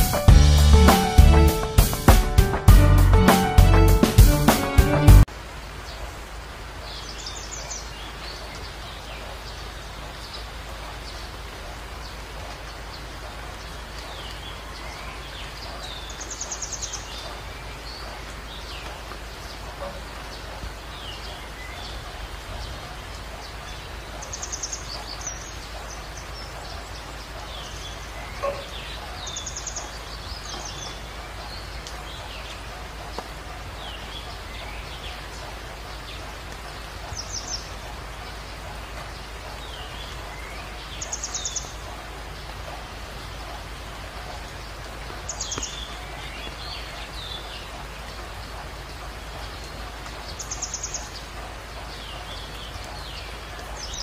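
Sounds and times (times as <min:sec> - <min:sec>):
background hiss: 0:00.0 - 0:54.0
birds chirping: 0:00.0 - 0:54.0.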